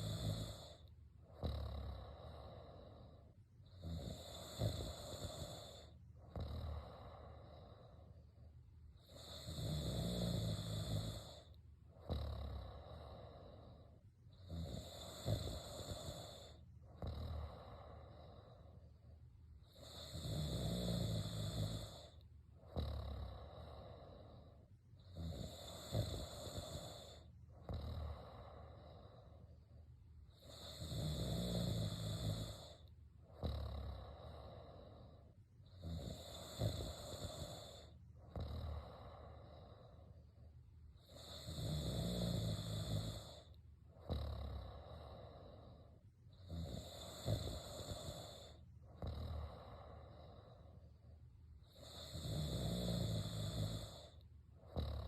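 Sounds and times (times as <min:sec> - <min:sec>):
person snoring: 0:00.0 - 0:08.2, 0:09.0 - 0:29.6, 0:30.3 - 0:40.2, 0:41.0 - 0:55.0.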